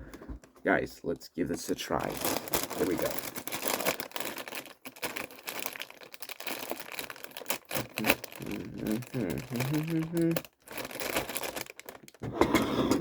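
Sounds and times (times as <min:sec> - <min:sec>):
plastic bag crinkling: 0:01.5 - 0:12.2.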